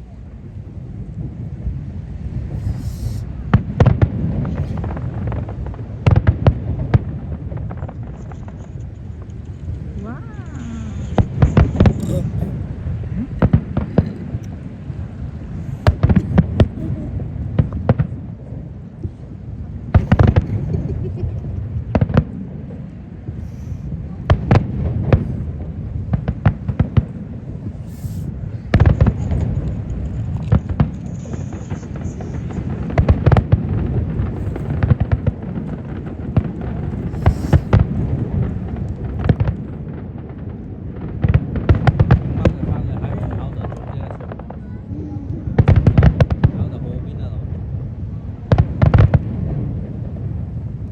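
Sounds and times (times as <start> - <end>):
low rumble of booms: 0.0 - 50.9
fireworks bangs: 1.2 - 50.9.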